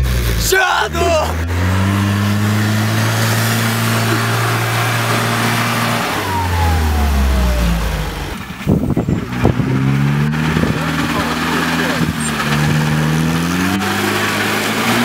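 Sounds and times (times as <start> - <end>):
another engine: 0.0 - 15.0
jeep engine churning through mud: 0.0 - 15.0
low rumbling thumps: 1.3 - 13.7.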